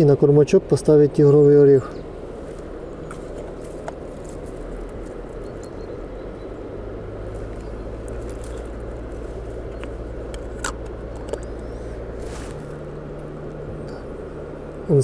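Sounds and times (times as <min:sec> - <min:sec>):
low hum: 0:00.1 - 0:15.0.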